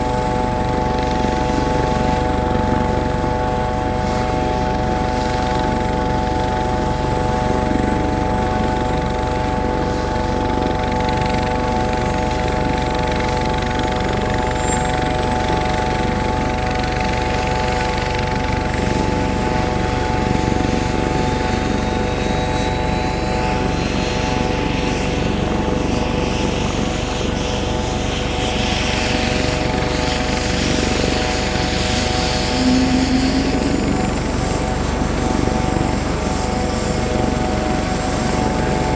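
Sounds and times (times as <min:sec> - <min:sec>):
helicopter whine: 0:00.0 - 0:38.9
rotor and engine rumble: 0:00.0 - 0:38.9.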